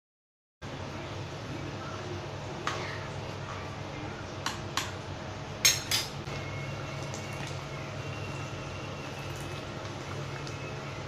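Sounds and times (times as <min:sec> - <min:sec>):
faint liquid cooking sounds: 0:00.6 - 0:11.0.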